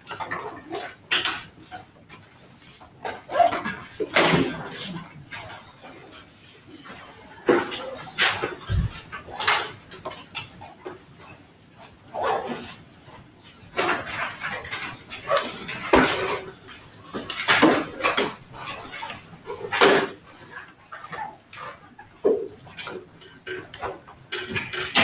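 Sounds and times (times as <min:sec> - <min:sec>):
knocks scrapes and rustles: 0:00.1 - 0:25.0.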